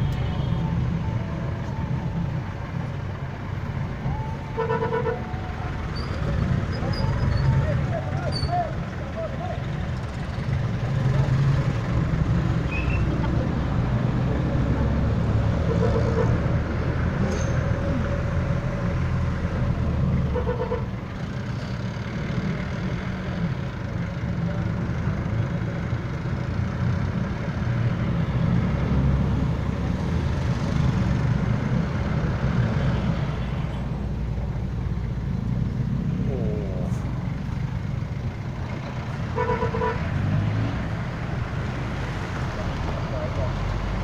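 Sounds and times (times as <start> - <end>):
diesel engine rumble: 0.0 - 44.0.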